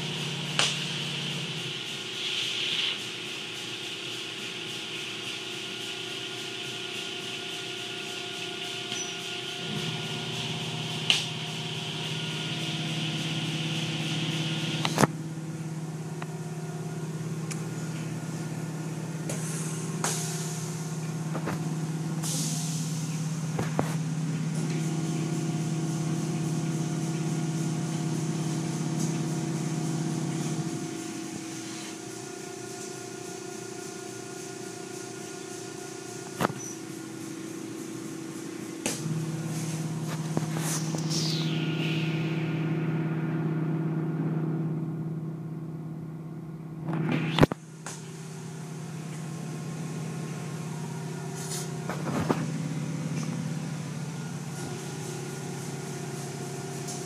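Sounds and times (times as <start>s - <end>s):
car wash strips and water spray: 0.0s - 42.5s, 46.9s - 57.0s
steady hiss: 0.0s - 43.1s, 47.2s - 57.0s
machinery motor humming: 0.0s - 57.0s.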